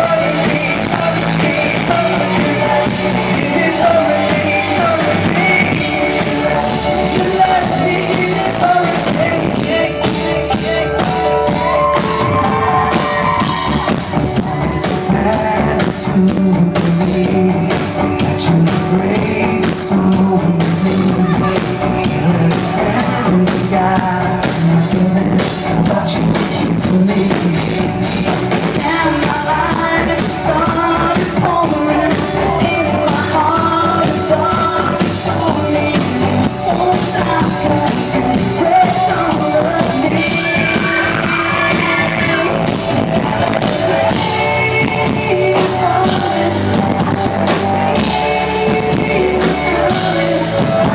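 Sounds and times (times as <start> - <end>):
drum kit beat: 0.0 - 50.9
live pop-rock band: 0.0 - 50.9.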